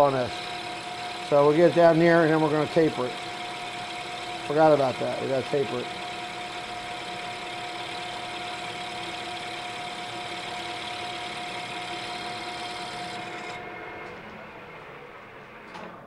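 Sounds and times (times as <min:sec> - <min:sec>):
lathe whining: 0:00.0 - 0:15.8.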